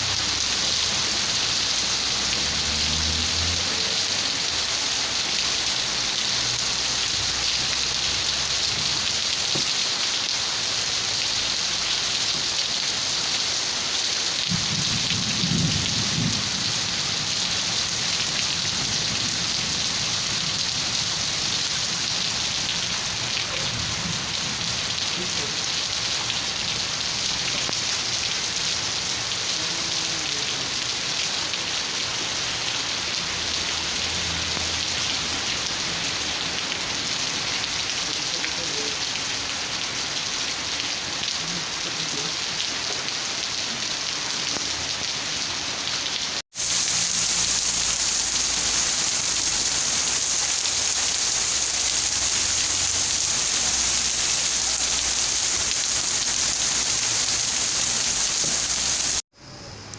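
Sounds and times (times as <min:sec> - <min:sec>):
steady rain falling: 0:00.0 - 0:59.2.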